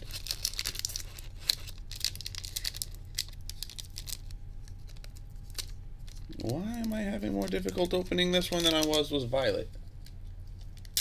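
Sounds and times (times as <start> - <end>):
foil pack crinkling and ripping: 0.0 - 9.3, 10.0 - 11.0.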